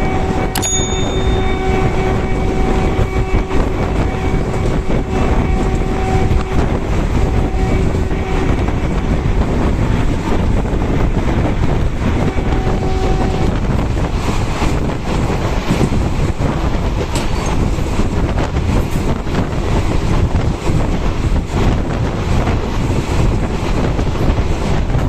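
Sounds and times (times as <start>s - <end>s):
train wheels on rails: 0.0s - 25.0s
wind buffeting microphone: 0.0s - 25.0s.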